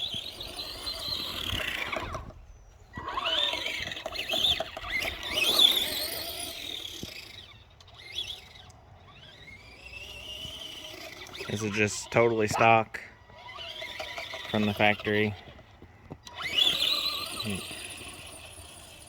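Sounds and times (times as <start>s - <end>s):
rc truck electric motor whining: 0.0s - 19.0s.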